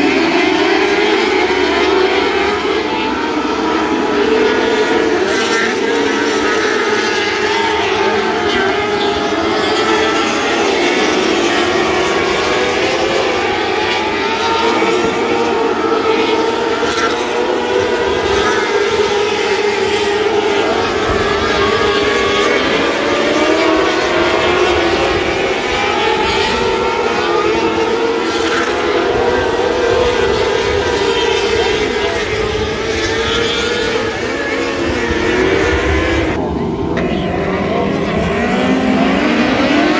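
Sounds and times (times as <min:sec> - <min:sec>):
racing car engines at high revs: 0:00.0 - 0:39.9.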